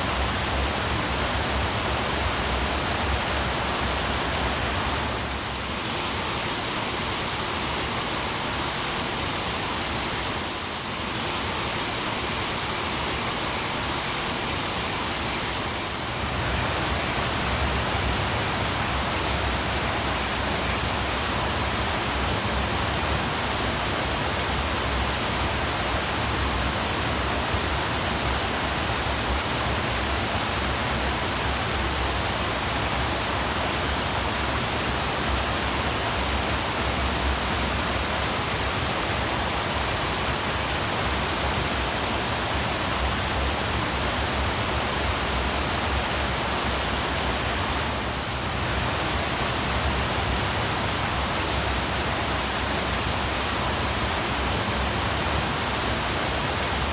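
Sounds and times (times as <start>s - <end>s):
waterfall rushing: 9.4s - 56.9s.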